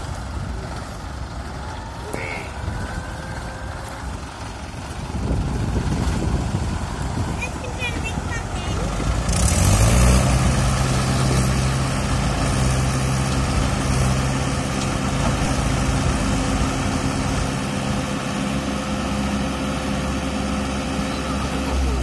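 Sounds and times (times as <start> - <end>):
diesel tractor engines running: 0.0 - 22.0.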